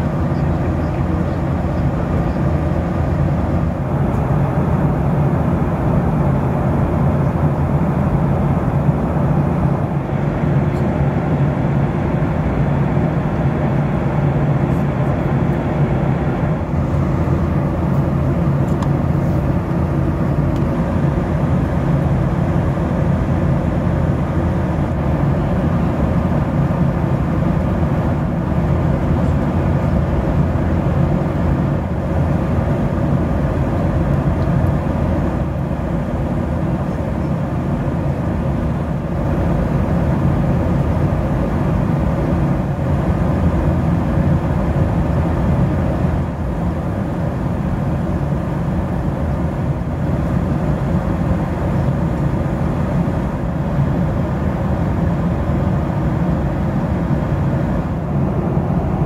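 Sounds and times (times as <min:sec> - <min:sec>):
airliner cabin engine rush: 0:00.0 - 0:59.0.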